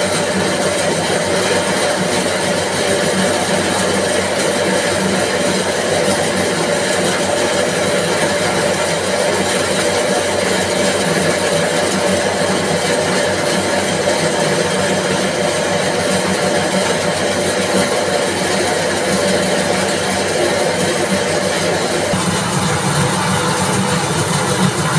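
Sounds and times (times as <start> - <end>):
spinning machine humming: 0.0 - 24.9.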